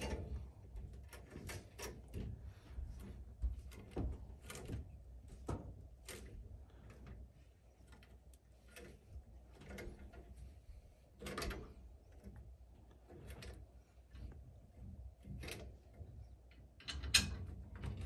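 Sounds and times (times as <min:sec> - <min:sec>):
metal hose clicks and knocks: 0:00.0 - 0:07.2, 0:07.8 - 0:10.6, 0:11.2 - 0:18.0.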